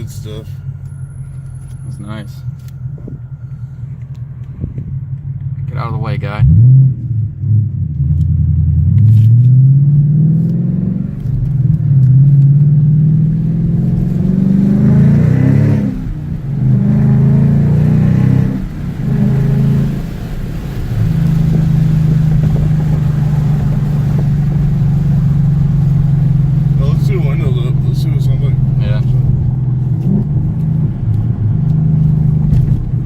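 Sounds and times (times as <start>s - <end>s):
car engine accelerating: 0.0s - 33.0s.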